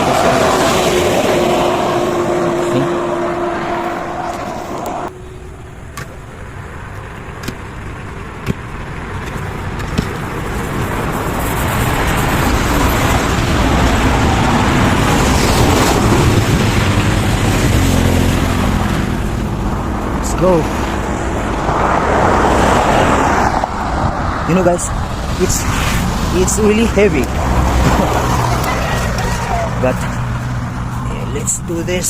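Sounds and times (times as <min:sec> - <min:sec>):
motor vehicle running: 0:00.0 - 0:32.0.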